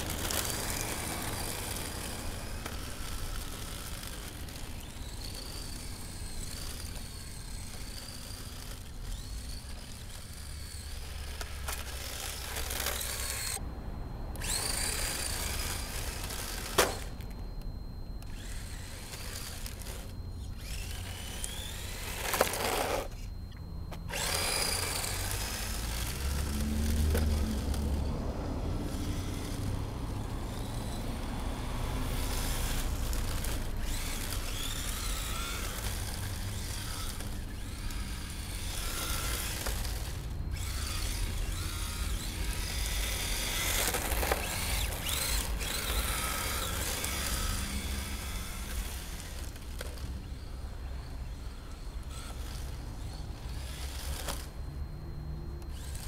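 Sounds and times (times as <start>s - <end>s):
electric motor whining: 0.0s - 13.6s, 14.3s - 56.0s.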